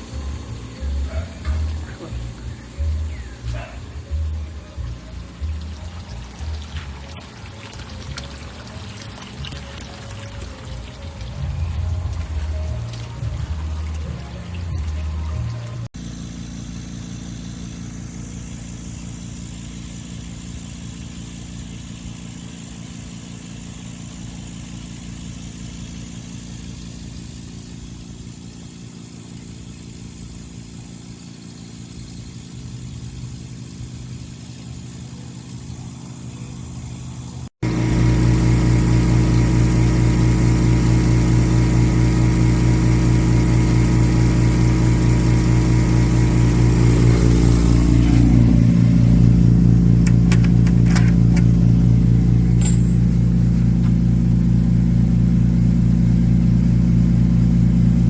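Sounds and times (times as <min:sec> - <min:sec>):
air compressor humming: 0:00.0 - 0:09.5, 0:15.8 - 0:58.0.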